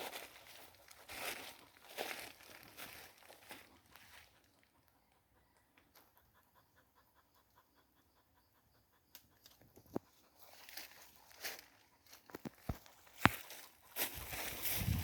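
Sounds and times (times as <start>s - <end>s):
dog panting: 0.2s - 14.6s.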